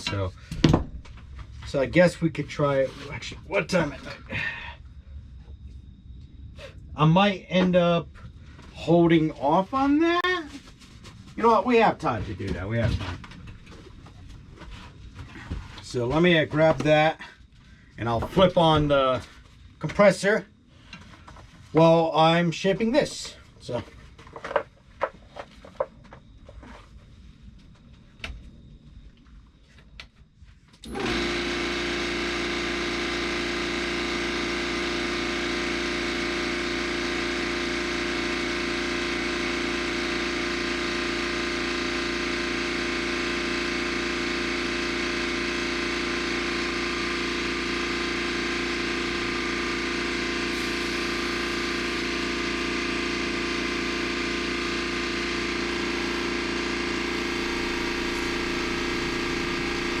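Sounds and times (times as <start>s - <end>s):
air compressor running: 0.0s - 4.9s, 8.2s - 26.9s, 30.8s - 60.0s.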